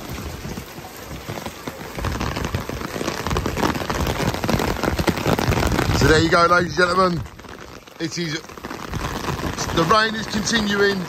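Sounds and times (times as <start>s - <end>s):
rain drops hitting umbrella: 0.0s - 11.0s
rain hissing on road: 0.0s - 11.0s.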